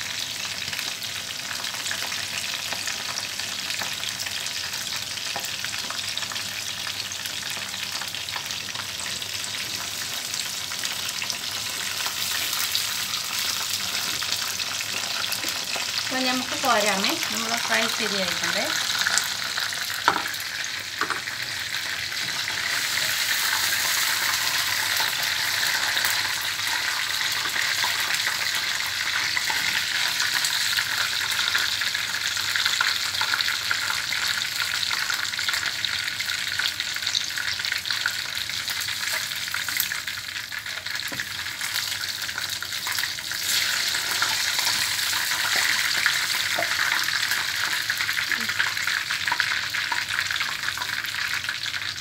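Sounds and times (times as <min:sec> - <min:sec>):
chicken frying in oil: 0:00.0 - 0:52.0.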